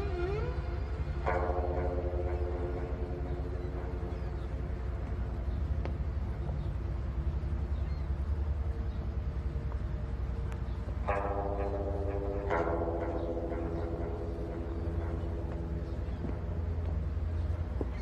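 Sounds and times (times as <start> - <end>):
motorboat engine rumble: 0.0 - 18.0
soft background music: 0.3 - 18.0.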